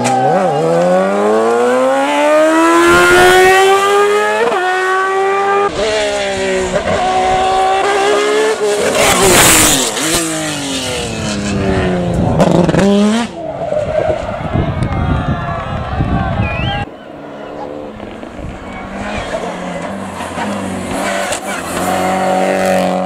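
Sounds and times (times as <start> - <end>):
race car engine through gear changes: 0.0 - 14.3, 17.6 - 23.0
buggy engine revving: 0.0 - 14.4, 17.6 - 23.0.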